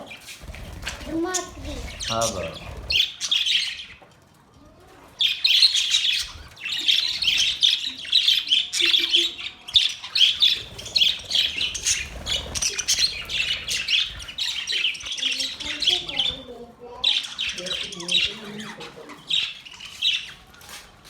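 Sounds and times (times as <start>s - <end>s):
budgerigars chattering: 0.0s - 4.0s, 5.2s - 20.7s.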